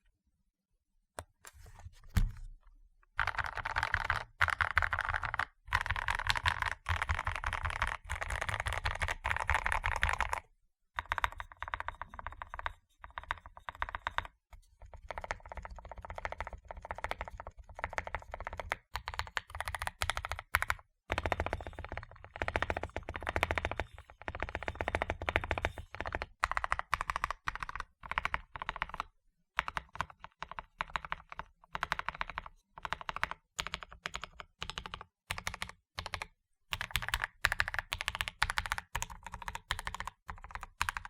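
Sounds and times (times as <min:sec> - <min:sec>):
mechanical keyboard typing: 0:03.2 - 0:10.4, 0:11.0 - 0:41.0.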